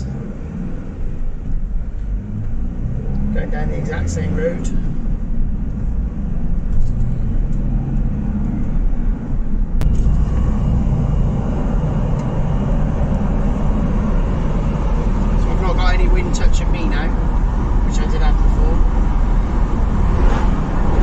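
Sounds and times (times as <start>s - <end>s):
van engine and road rumble: 0.0s - 21.0s.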